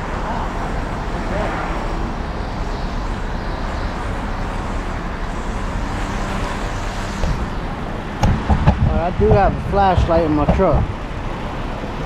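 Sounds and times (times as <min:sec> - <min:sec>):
vehicle drone with hiss: 0:00.0 - 0:12.0.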